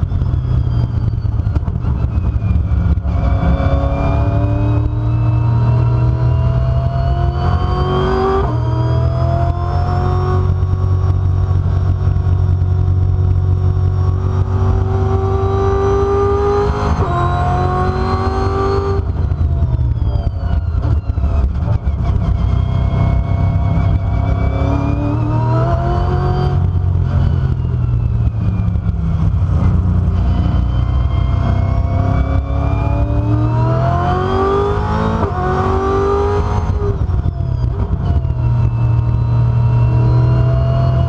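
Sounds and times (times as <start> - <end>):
heavy low rumble: 0.0 - 16.1, 17.0 - 41.0
race car engine at full throttle: 0.0 - 41.0.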